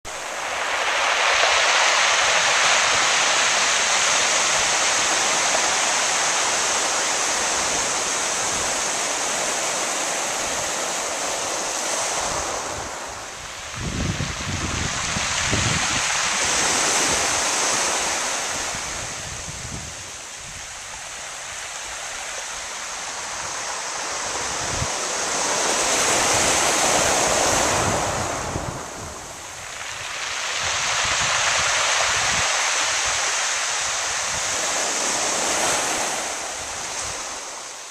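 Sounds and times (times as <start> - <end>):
waves on pebble beach: 0.1 - 37.9.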